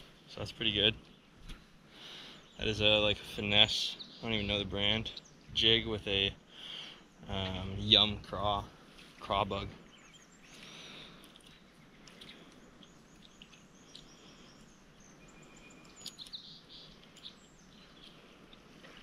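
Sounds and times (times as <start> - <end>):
faint birdsong: 0.0 - 19.0.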